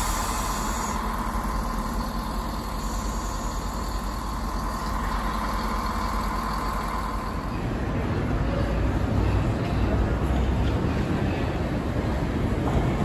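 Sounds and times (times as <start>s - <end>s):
diesel train engines droning: 0.0s - 13.0s.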